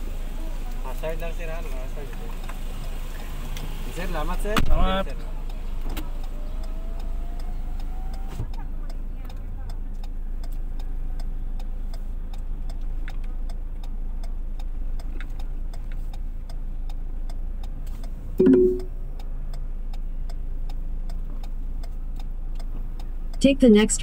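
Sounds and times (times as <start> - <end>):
car engine idling: 0.0 - 23.4
turn signal ticking: 0.0 - 24.0.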